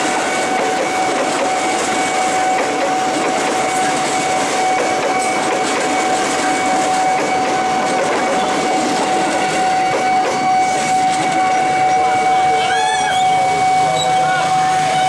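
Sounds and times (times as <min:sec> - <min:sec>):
steady high tone: 0:00.0 - 0:15.0
train wheels rushing on rail: 0:00.0 - 0:15.0.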